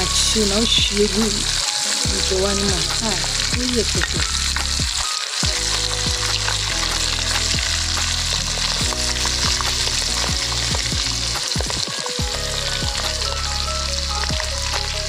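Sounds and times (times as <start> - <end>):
stew sizzling in oil: 0.0 - 15.0.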